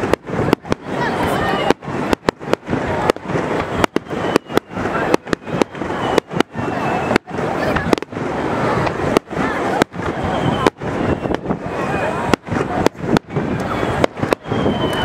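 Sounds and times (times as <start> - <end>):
dense wash of noise: 0.0 - 15.0
faint crowd voices: 0.0 - 15.0
fireworks bursting: 0.0 - 15.0.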